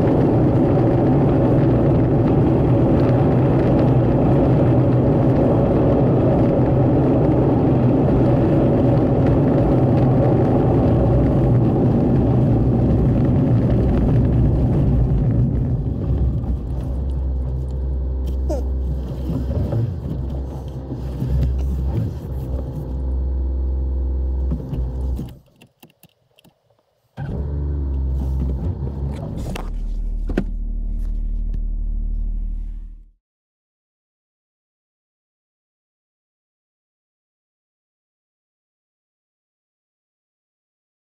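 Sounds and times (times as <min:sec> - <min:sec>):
tyres and engine rumble: 0:00.0 - 0:33.2.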